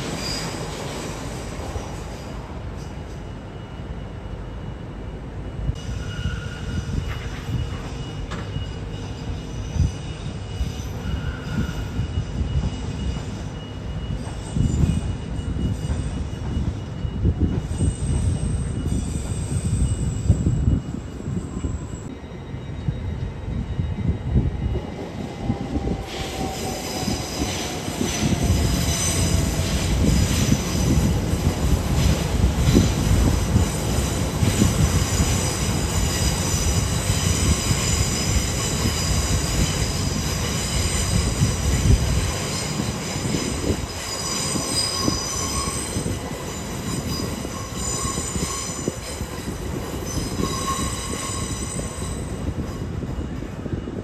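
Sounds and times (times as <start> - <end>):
train wheels squealing on rails: 0.0 - 54.0
train rumble: 4.3 - 54.0.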